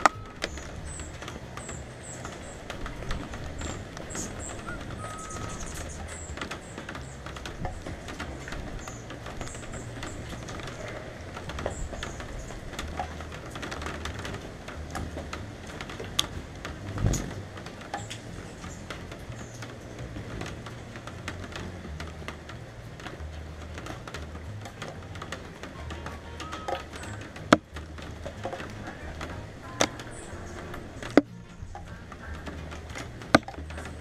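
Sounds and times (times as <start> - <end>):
rain pattering: 0.0 - 34.0
raindrops ticking on camera: 0.0 - 34.0
wind rumbling on microphone: 0.0 - 34.0.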